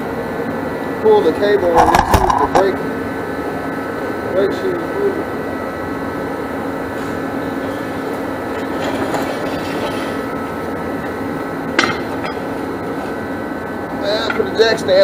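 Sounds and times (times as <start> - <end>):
machine drone with high whine: 0.0 - 15.0.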